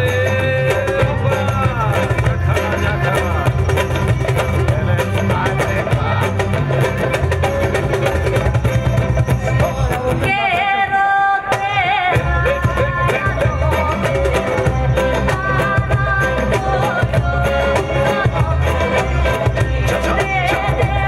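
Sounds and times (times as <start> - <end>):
person singing: 0.0 - 7.8, 9.4 - 21.0
drum beat: 0.0 - 10.6, 11.6 - 21.0
acoustic guitar: 0.0 - 10.8, 11.6 - 21.0.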